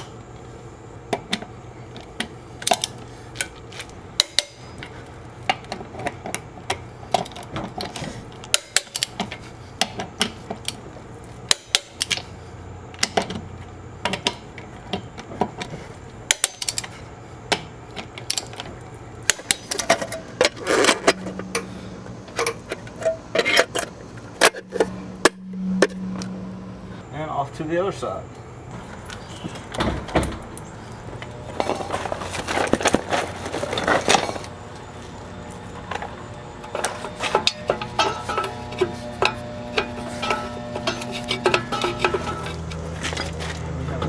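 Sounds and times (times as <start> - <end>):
low hum: 8.1 - 44.0.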